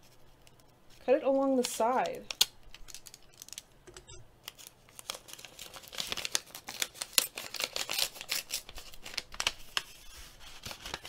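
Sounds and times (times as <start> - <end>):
paper envelope crackling open: 1.0 - 3.7, 4.4 - 11.0.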